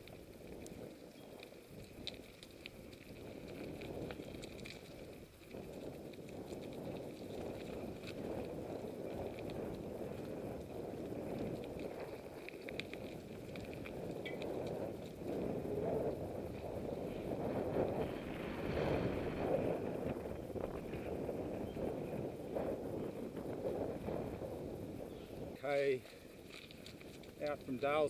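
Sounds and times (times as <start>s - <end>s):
bike rattling: 0.0s - 28.0s
bike tyres rumbling on gravel: 0.0s - 28.0s
wind on microphone: 0.0s - 28.0s.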